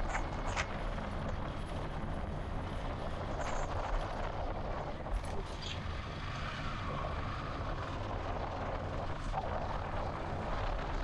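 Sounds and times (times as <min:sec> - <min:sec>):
motorcycle engine drone: 0:00.0 - 0:11.0
wind and road rush: 0:00.0 - 0:11.0.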